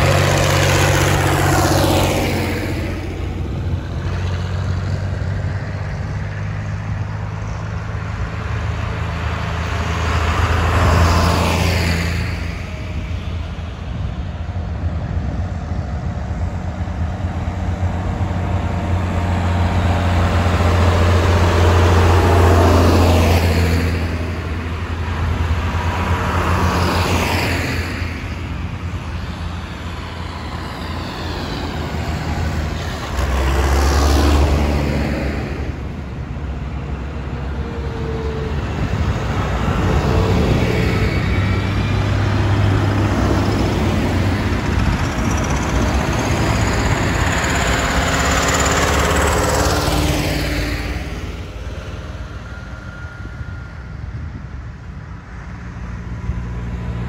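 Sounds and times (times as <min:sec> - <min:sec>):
tractors driving past: 0:00.0 - 0:57.0.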